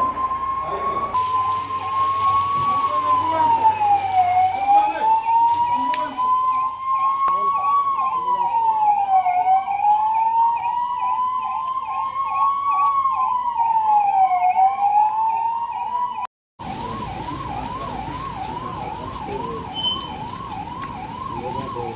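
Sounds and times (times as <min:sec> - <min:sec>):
siren wail: 0:00.0 - 0:21.9
siren yelp: 0:00.0 - 0:21.9.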